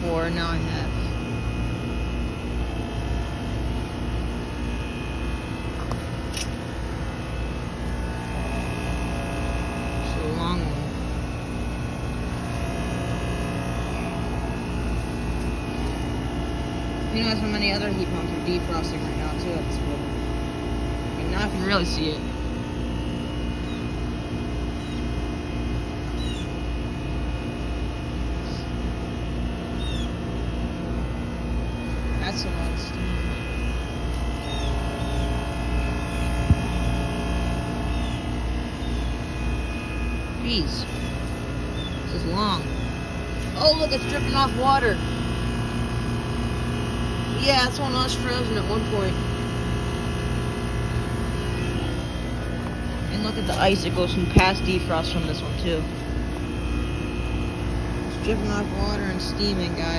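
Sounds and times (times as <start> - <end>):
heat pump hum: 0.0 - 59.9.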